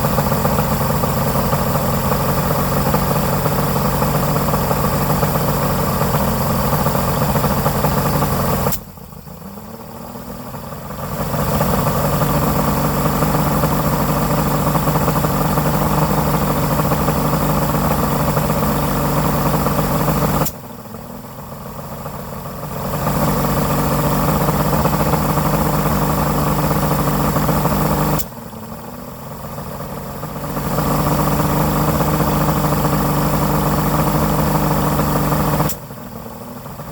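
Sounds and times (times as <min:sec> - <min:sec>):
outboard motor sputtering: 0:00.0 - 0:21.0, 0:21.9 - 0:28.2, 0:29.7 - 0:36.9.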